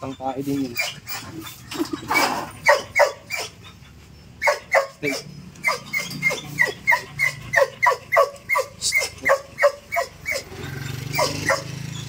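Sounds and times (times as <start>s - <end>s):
dog yelping: 0.0s - 12.0s.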